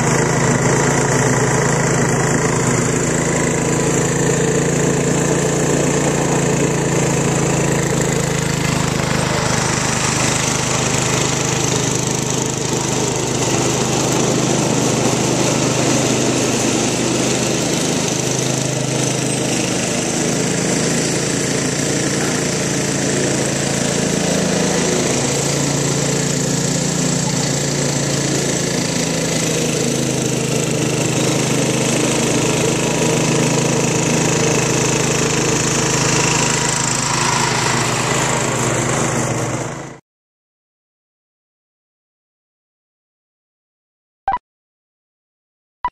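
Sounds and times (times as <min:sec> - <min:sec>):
lawn tractor engine running: 0:00.0 - 0:40.0.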